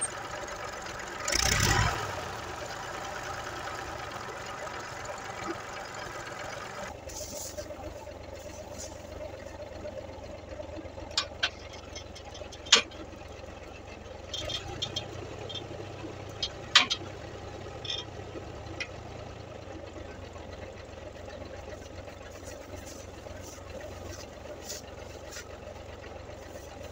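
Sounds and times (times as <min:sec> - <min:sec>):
tractor engine idling: 0:00.0 - 0:26.9.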